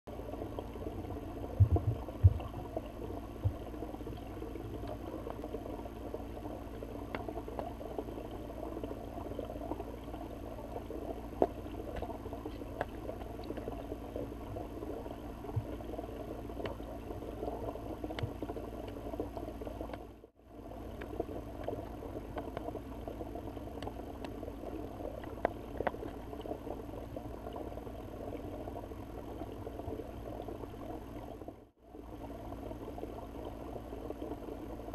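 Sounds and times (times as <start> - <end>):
small ticks and clicks: 0.1 - 31.6.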